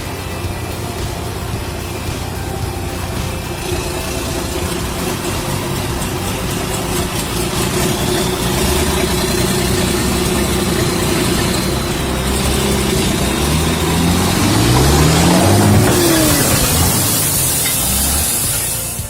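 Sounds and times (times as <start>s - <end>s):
large machine engine running: 0.0s - 19.0s.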